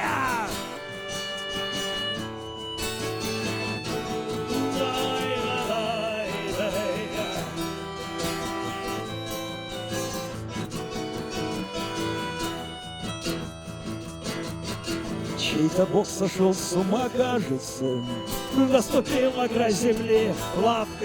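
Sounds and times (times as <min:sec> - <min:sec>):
wavering lead guitar melody: 0:00.0 - 0:21.0.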